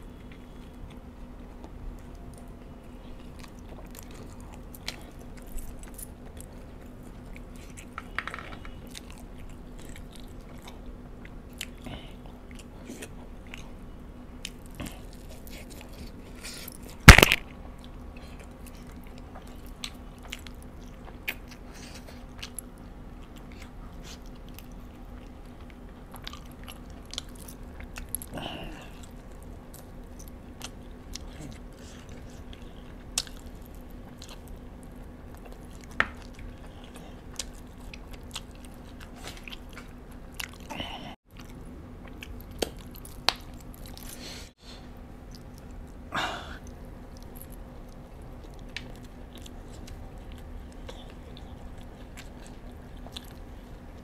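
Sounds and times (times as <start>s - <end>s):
person chewing food: 0.0s - 13.8s, 14.4s - 44.5s, 45.1s - 54.0s
faint steady hum: 0.0s - 54.0s.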